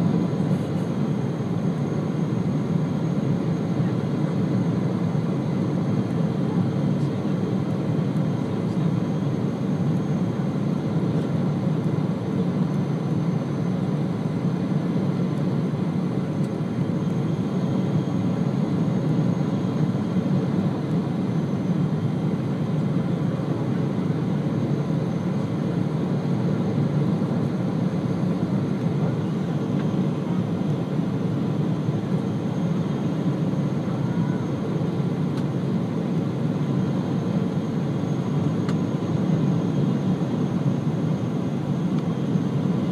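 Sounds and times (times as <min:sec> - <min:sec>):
airliner cabin noise: 0:00.0 - 0:42.9
faint high whine: 0:00.0 - 0:42.9.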